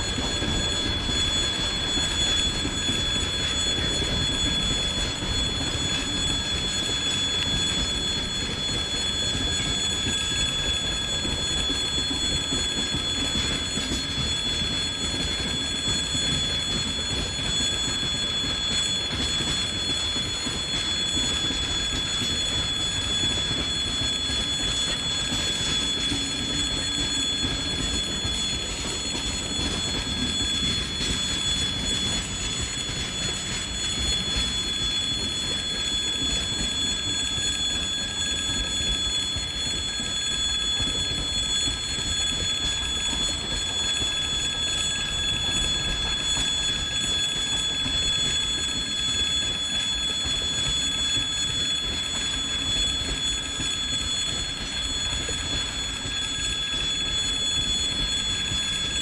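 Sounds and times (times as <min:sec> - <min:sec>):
freight train wagons rumbling: 0:00.0 - 0:49.0
high ringing tone: 0:00.0 - 0:59.0.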